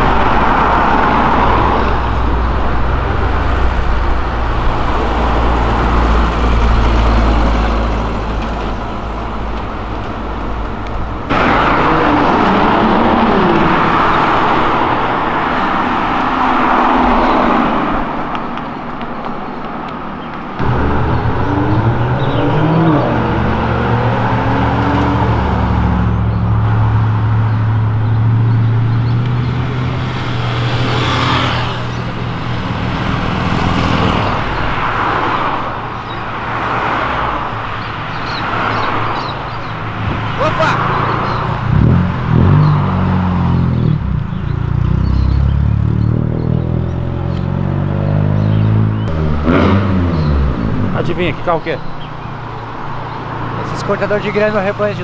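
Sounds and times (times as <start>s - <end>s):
car engines revving: 0.0s - 55.0s
cars driving past: 0.0s - 55.0s.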